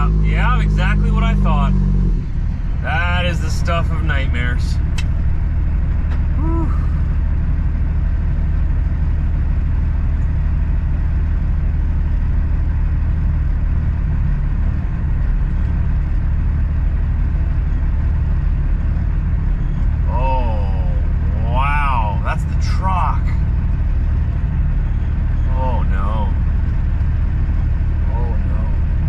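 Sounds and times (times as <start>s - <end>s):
road noise: 0.0s - 29.0s
truck diesel engine drone: 0.0s - 29.0s.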